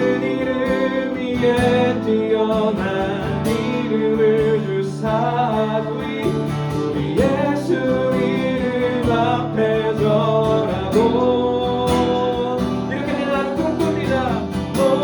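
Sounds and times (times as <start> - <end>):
acoustic guitar strumming: 0.0 - 15.0
people singing worship song: 0.0 - 15.0.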